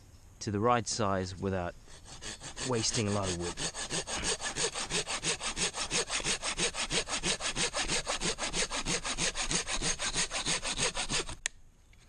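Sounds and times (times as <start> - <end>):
pruning saw cutting wood: 1.8 - 11.5.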